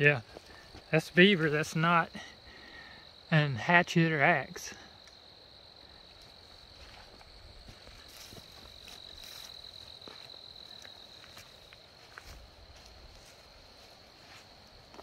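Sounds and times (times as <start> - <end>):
high-pitched insect song: 0.0 - 15.0.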